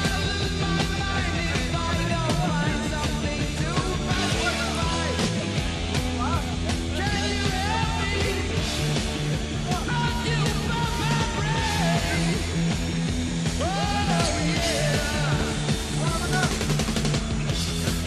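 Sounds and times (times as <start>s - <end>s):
rock music: 0.0s - 18.0s.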